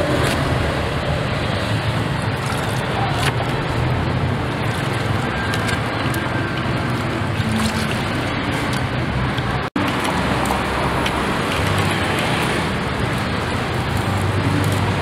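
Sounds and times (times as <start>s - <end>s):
street traffic noise: 0.0s - 15.0s
water splashing into plastic basin: 1.2s - 15.0s.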